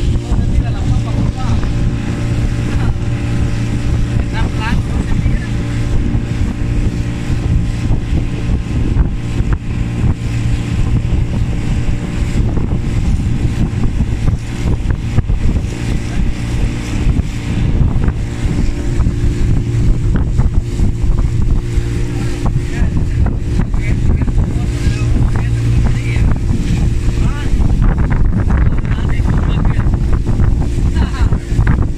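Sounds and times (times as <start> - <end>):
hull knocking through waves: 0.0 - 31.9
motorboat engine running: 0.0 - 31.9
wind buffeting microphone: 0.0 - 31.9.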